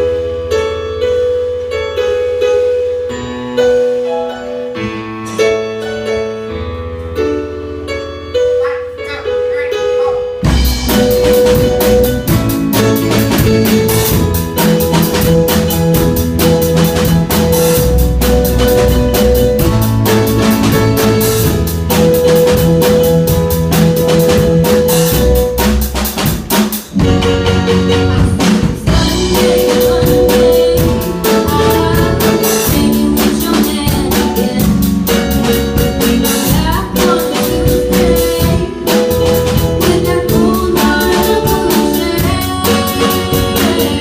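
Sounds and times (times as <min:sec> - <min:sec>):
drum kit with full band: 0:00.0 - 0:44.0.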